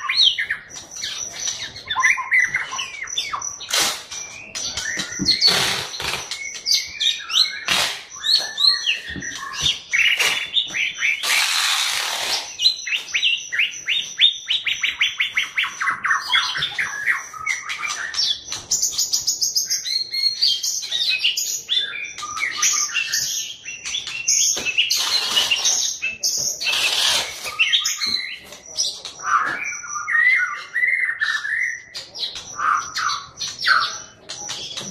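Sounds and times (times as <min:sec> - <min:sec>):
songbird whistling and chattering: 0:00.0 - 0:34.9.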